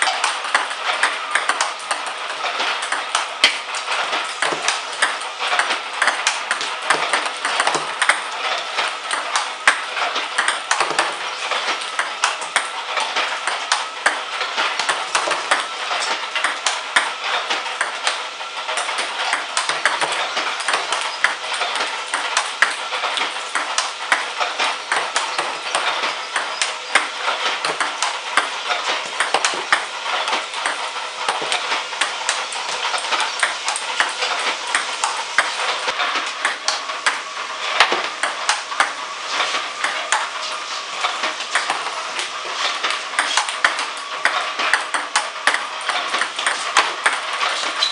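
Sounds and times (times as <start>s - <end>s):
ping-pong ball clicks: 0.0s - 3.6s, 4.2s - 37.2s, 37.8s - 39.0s, 39.8s - 47.9s.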